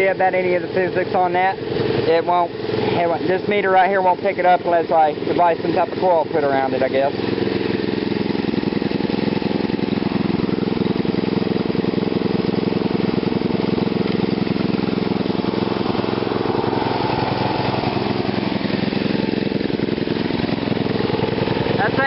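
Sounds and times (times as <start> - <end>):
small engine idling: 0.0 - 22.0.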